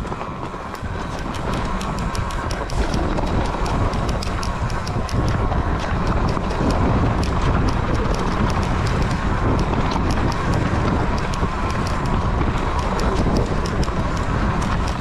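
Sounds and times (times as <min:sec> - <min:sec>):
rattle of sharp clicks: 0:00.0 - 0:15.0
wind buffeting microphone: 0:00.0 - 0:15.0.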